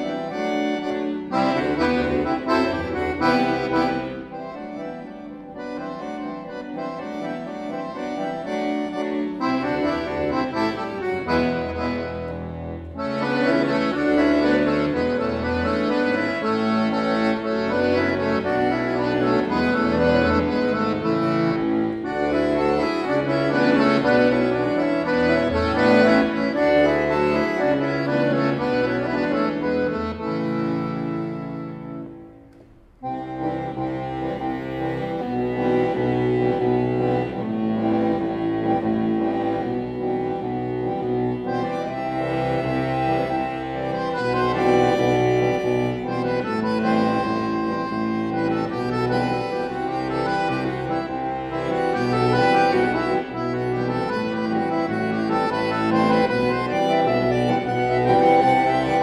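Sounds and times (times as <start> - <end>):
accordion melody with bass line: 0.0 - 59.0.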